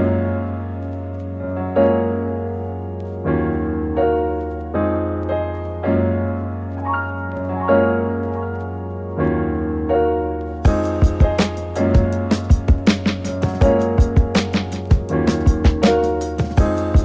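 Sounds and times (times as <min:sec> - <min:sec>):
mellow electric piano chords: 0:00.0 - 0:17.0.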